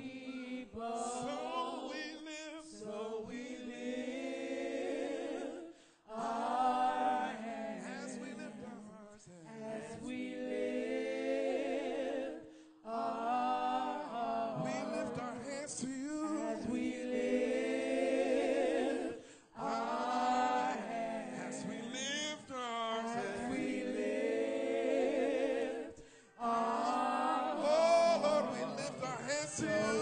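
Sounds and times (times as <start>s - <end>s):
gospel group singing: 0.0s - 30.0s.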